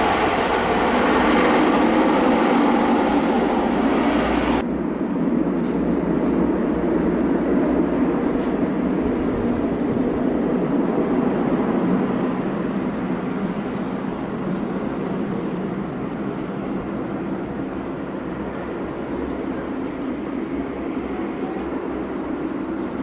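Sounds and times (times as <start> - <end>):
crickets trilling: 0.0 - 23.0
jet engines rumbling: 0.0 - 23.0.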